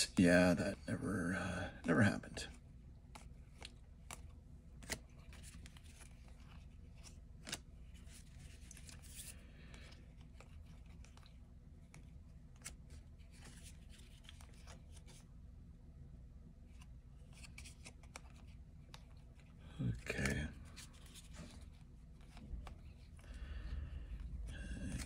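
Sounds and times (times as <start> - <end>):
paper cards rustling and clicking: 2.5 - 15.3, 16.7 - 25.0.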